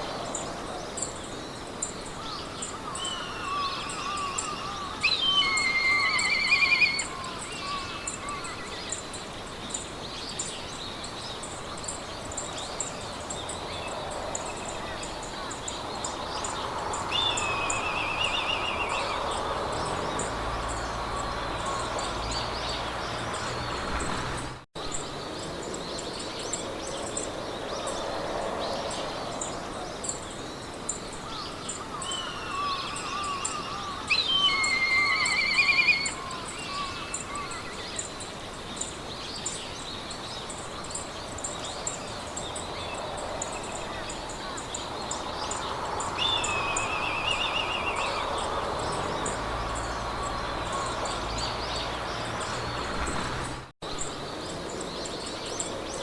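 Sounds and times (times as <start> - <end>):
songbirds singing trills: 0.0 - 56.0
wind through grass: 0.0 - 56.0.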